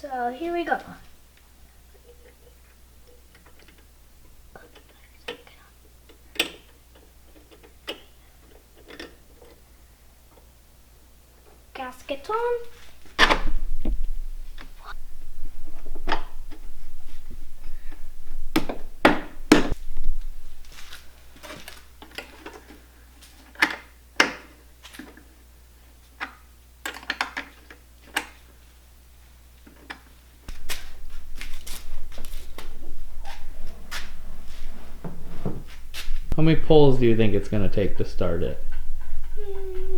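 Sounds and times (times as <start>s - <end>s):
steady low hum: 0.0s - 26.8s, 27.6s - 39.9s.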